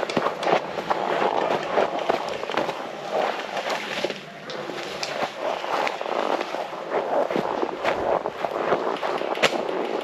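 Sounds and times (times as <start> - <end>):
snow and forest litter crunching: 0.0 - 9.7.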